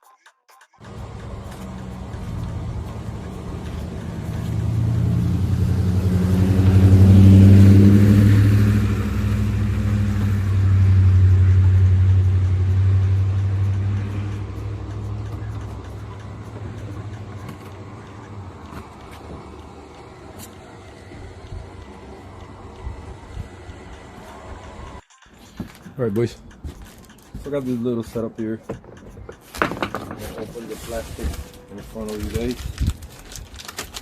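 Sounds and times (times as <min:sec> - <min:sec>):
car engine running: 0:00.8 - 0:34.0.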